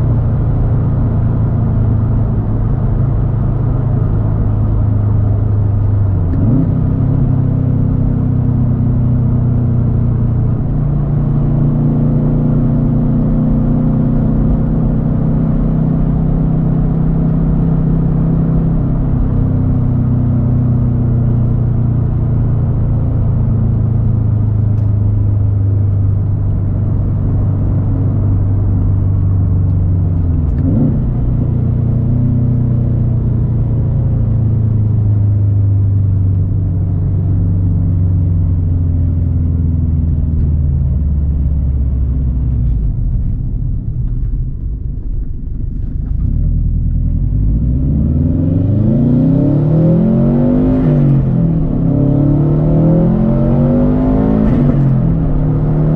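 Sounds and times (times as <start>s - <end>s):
car engine running: 0.0s - 55.9s.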